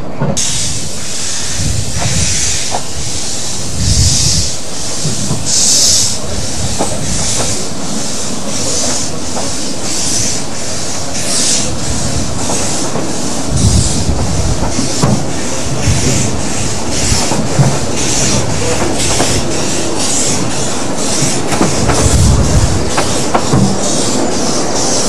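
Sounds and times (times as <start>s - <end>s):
train wheels clicking on rails: 0.0s - 25.0s
steam locomotive exhaust chuff: 0.2s - 25.0s.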